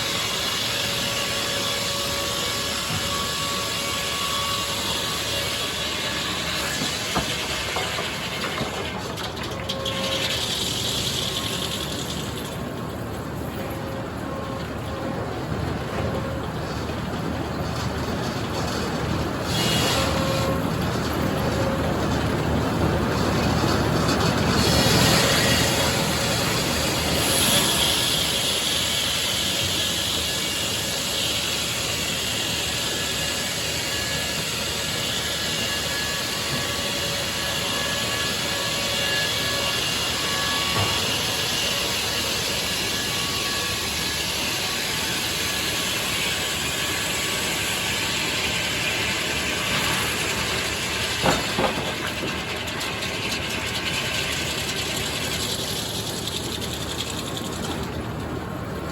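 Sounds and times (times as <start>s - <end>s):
sawmill running: 0.0s - 58.9s.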